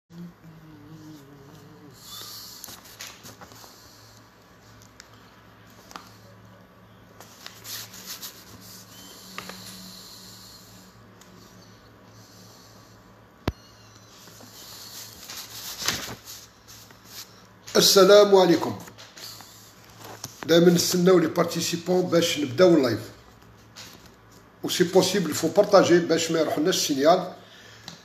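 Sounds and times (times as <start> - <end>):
steady low hum: 0.1 - 28.0.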